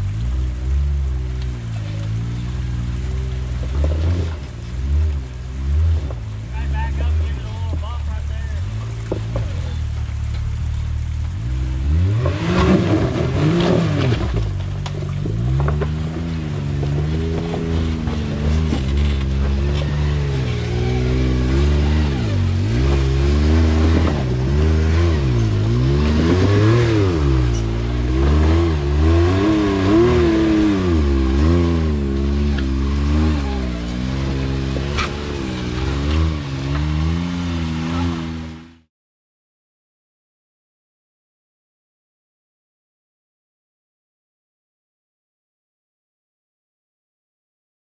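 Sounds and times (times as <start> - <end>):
engine revving: 0.0 - 38.9.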